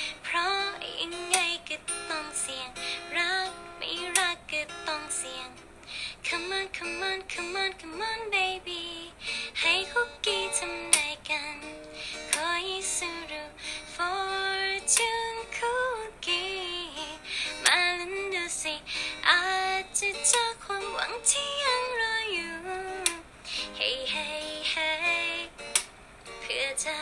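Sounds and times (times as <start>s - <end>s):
acoustic guitar: 0.0s - 27.0s
woman singing slow melody: 0.0s - 27.0s.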